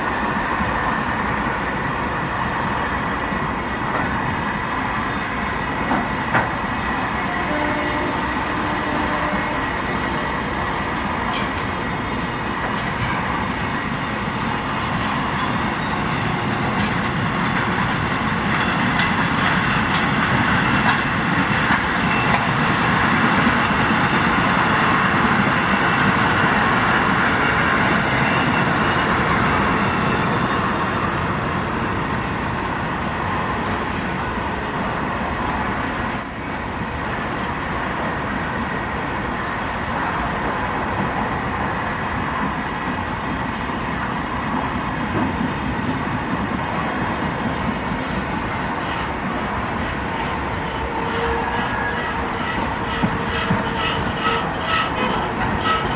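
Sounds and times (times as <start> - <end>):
train wheels on rails: 0.0 - 55.9.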